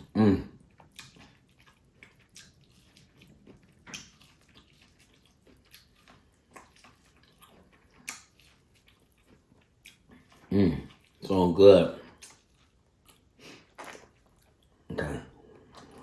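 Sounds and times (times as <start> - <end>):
wet eating sounds: 0.0 - 16.0.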